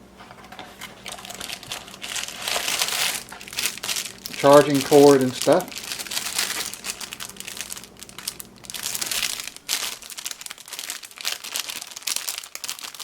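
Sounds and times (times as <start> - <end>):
plastic packaging crinkling: 0.4 - 13.0.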